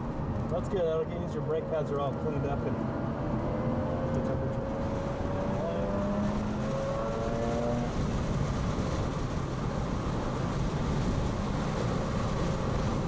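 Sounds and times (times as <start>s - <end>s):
road and tyre noise: 0.0s - 13.0s.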